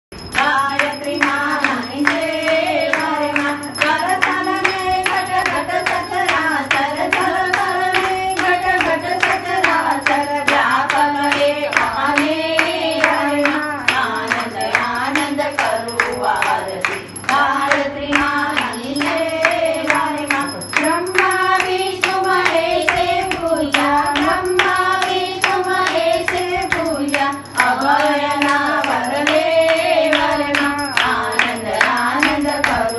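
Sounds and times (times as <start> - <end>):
group singing a hymn: 0.4 - 32.9.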